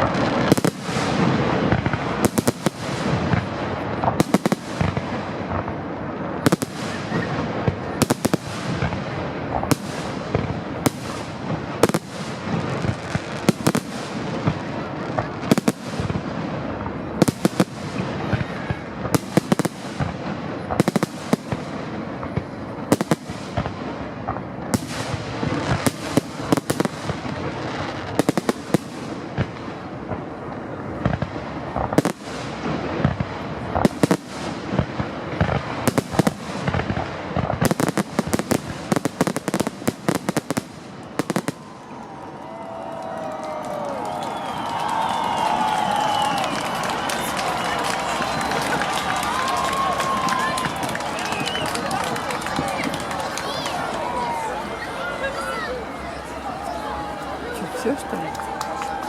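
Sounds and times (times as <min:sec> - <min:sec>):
fireworks crackling: 0:00.0 - 0:59.0.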